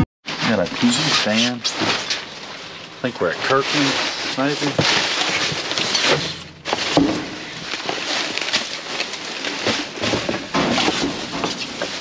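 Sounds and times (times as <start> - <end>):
trash bags and boxes rustling: 0.3 - 12.0.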